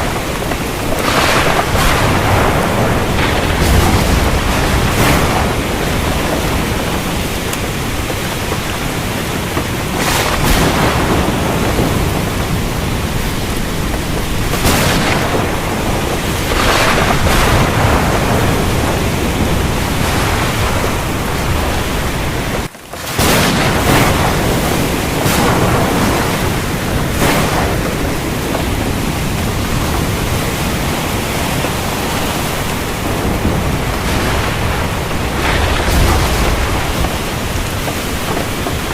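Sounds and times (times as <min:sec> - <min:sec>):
heavy rain: 0:00.0 - 0:38.9
rolling thunder: 0:00.0 - 0:38.9.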